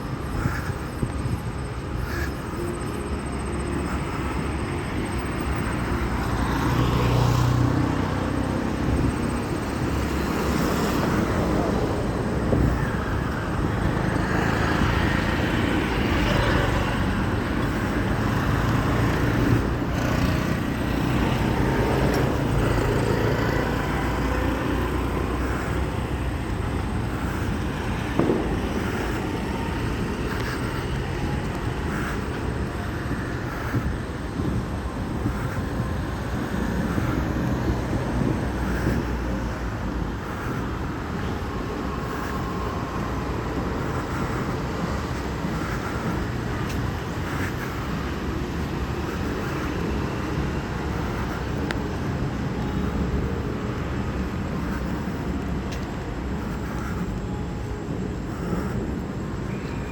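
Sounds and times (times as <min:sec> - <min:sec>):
road traffic engine rumble: 0:00.0 - 0:59.9.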